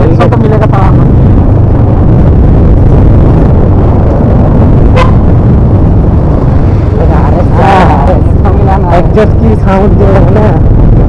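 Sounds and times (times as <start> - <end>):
motorcycle exhaust rumbling: 0.0 - 11.0
wind buffeting microphone: 0.0 - 11.0.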